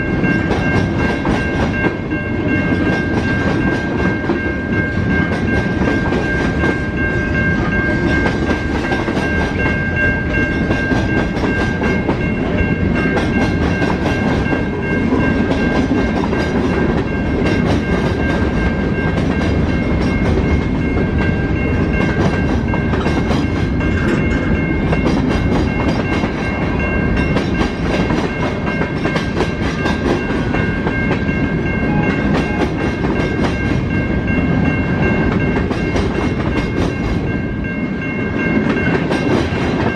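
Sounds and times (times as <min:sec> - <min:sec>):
railway wheels rumbling clickety-clack: 0:00.0 - 0:39.9.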